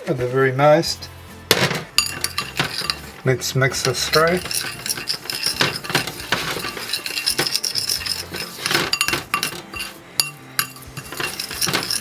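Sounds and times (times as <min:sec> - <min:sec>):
utensil clinking against bowl: 0:01.5 - 0:12.0
utensil stirring in a bowl: 0:02.0 - 0:12.0.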